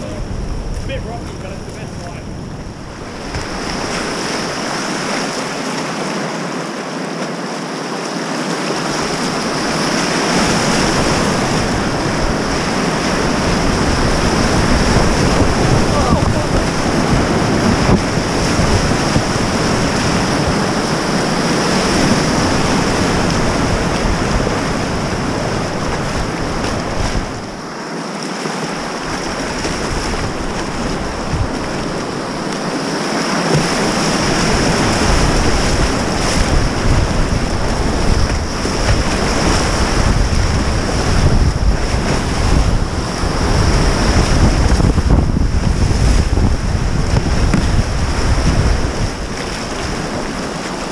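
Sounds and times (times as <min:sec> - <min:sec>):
whitewater rapids rushing: 0:00.0 - 0:50.9.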